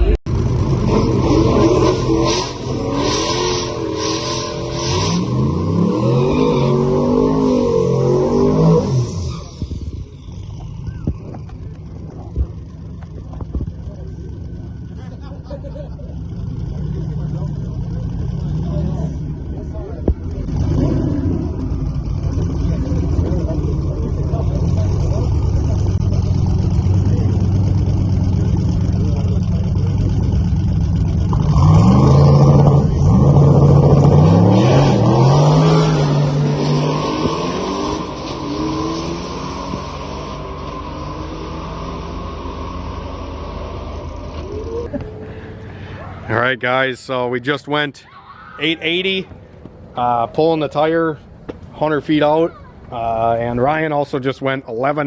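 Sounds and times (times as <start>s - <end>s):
drag car engine at high revs: 0.0s - 46.3s.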